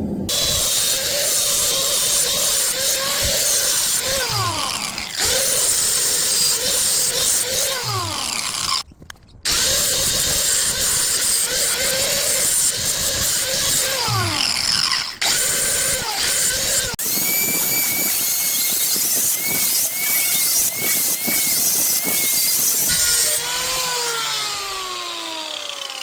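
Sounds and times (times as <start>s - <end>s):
power tool running with falling whine: 0.3s - 8.8s, 9.5s - 26.0s.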